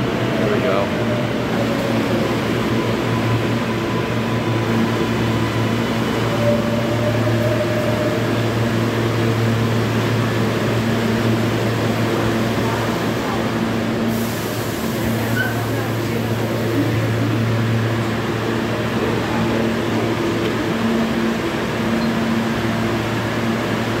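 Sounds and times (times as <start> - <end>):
subway train equipment humming: 0.0 - 24.0.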